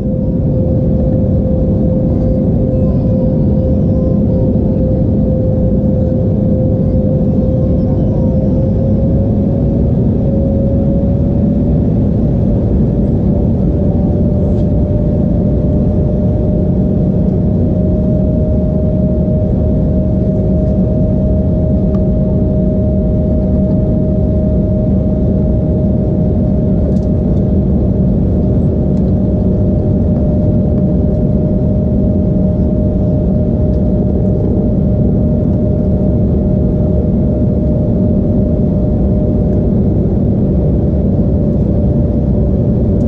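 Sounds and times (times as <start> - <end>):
jet engine drone: 0.0 - 43.0.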